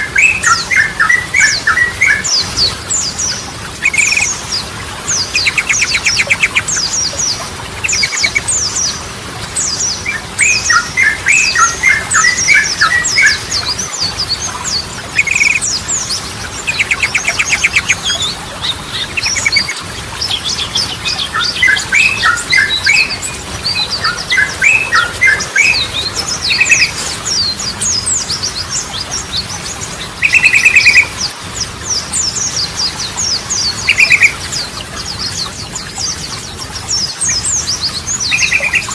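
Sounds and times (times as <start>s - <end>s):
bird song bubbling trills: 0.0s - 38.9s
high chirps twittering: 0.0s - 38.9s.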